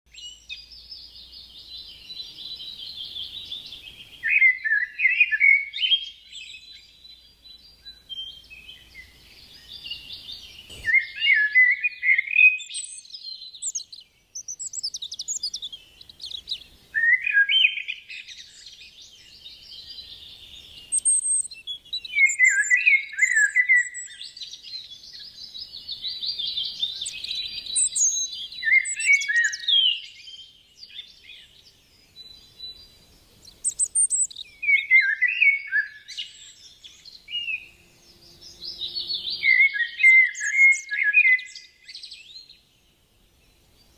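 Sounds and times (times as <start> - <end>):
songbird warbling: 1.6 - 31.7, 32.3 - 42.4.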